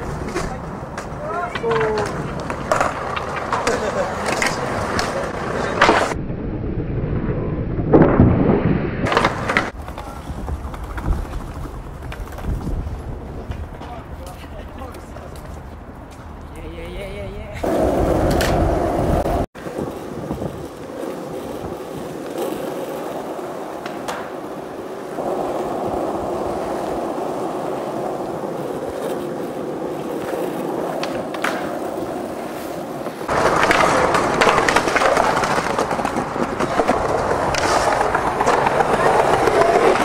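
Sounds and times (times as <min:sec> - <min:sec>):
skateboard clicks: 0:00.0 - 0:06.2, 0:09.1 - 0:16.7, 0:17.6 - 0:40.0
skateboard wheels rolling on pavement: 0:00.0 - 0:40.0.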